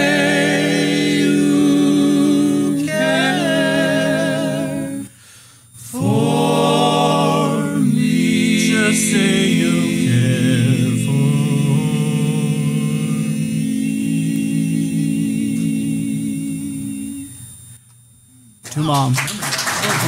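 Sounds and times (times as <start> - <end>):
male vocal quartet singing a cappella: 0.0 - 17.6.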